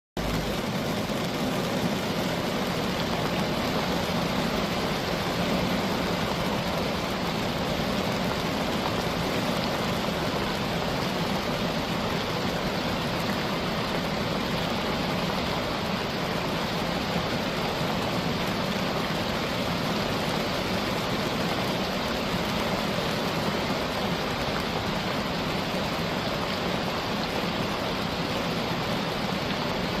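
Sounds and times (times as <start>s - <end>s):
wind-driven rain hiss: 0.2s - 30.0s.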